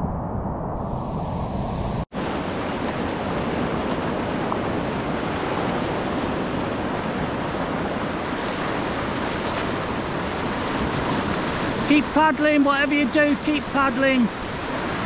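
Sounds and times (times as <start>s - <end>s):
whitewater rapids rushing: 2.2s - 15.0s.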